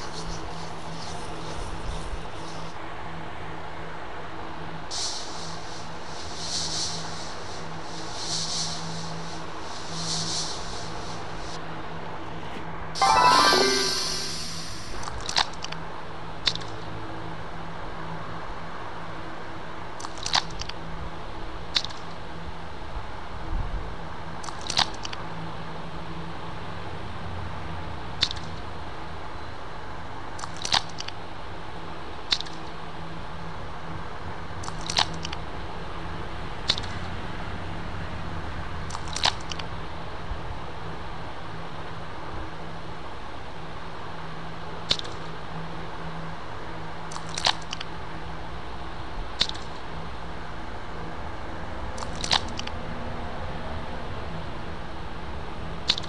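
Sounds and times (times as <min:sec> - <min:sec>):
steady hiss with low hum: 0:00.0 - 0:13.0, 0:14.3 - 0:56.0.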